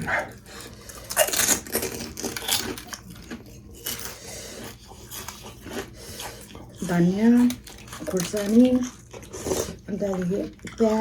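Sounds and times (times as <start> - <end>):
crunching of crisp food: 0.0 - 11.0.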